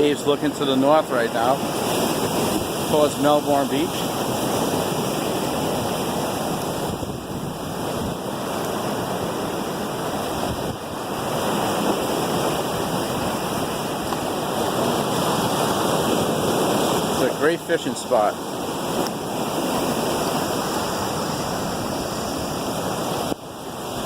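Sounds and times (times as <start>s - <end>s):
ocean waves breaking: 0.0s - 24.0s.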